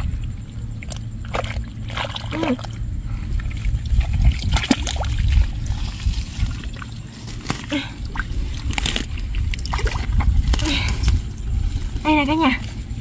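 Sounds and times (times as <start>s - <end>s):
wet splashes and squelches: 0.0s - 12.7s
hands sloshing through mud: 0.7s - 13.0s.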